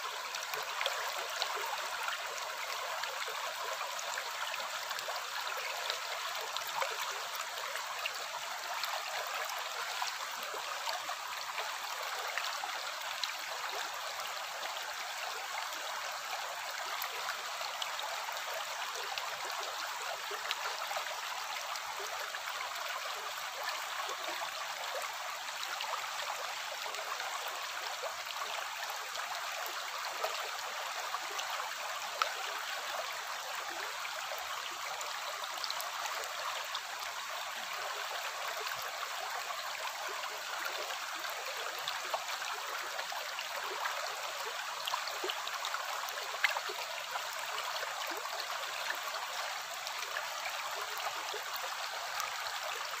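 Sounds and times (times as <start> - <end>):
stream babbling over rocks: 0.0 - 53.0.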